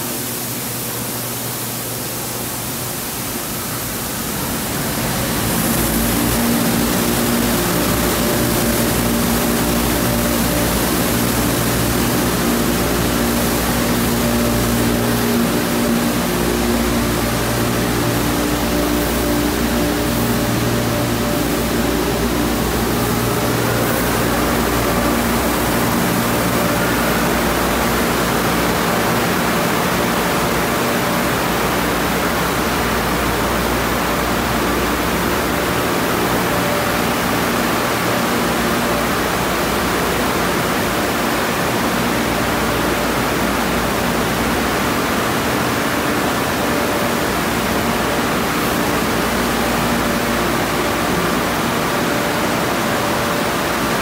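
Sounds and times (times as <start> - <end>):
machine hum: 0.0 - 54.0
water spraying over a car: 0.0 - 54.0.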